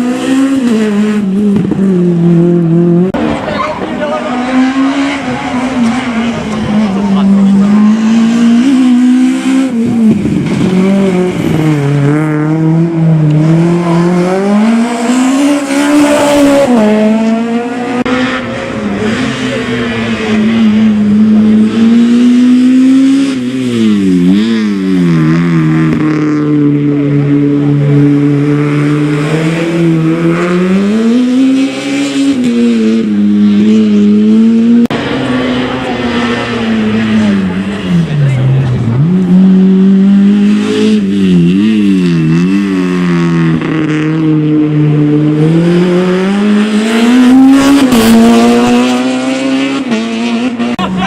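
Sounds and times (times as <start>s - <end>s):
rally car engine revving: 0.0s - 51.0s.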